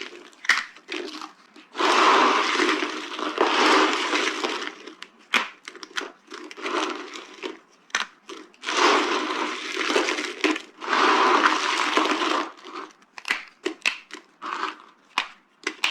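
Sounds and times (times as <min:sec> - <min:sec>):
dry soap crunching: 0:00.0 - 0:15.9.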